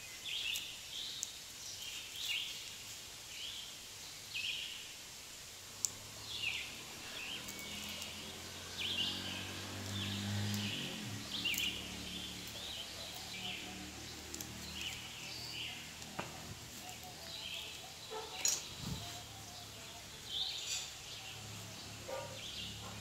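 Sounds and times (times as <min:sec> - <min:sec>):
birds chirping: 0:00.0 - 0:23.0
outdoor background noise: 0:00.0 - 0:23.0.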